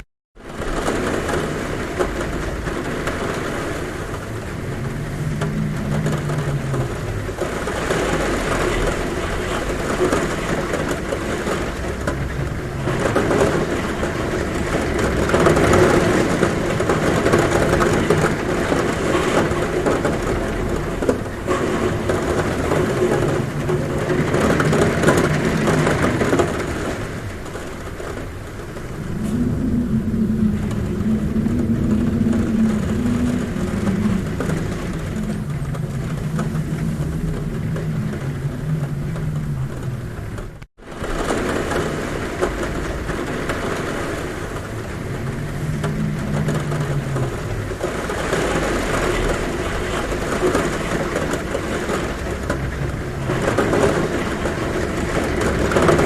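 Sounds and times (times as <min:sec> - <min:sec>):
heavy rain on a roof: 0:00.0 - 0:56.0
wind humming at window: 0:00.4 - 0:56.0.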